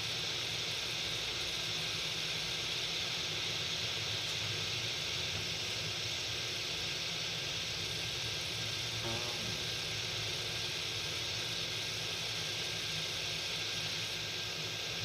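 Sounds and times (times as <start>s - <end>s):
radio hiss: 0.7s - 15.0s.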